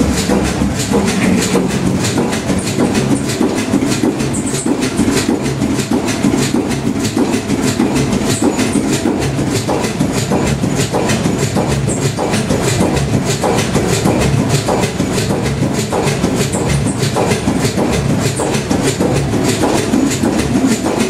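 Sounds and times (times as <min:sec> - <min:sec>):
marine diesel engine running: 0:00.0 - 0:21.0.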